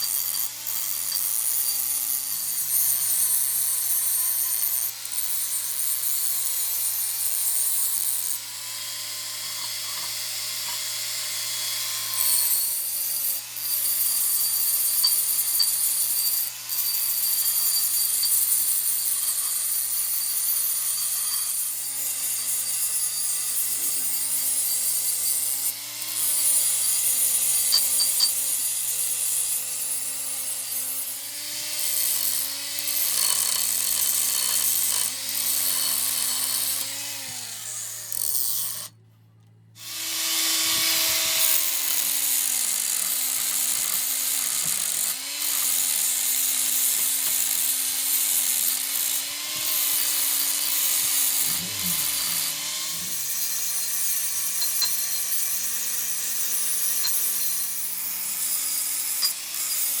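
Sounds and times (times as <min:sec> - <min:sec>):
grinding metal: 0:00.0 - 0:39.0, 0:39.8 - 1:00.0
power tool motor: 0:00.0 - 0:39.0, 0:39.8 - 1:00.0.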